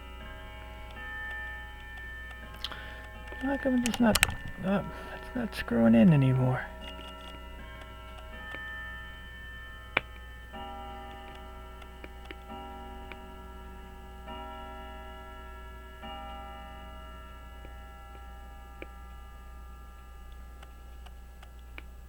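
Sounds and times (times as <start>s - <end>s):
faint sustained tones: 0.0s - 22.0s
low mains hum: 0.0s - 22.0s.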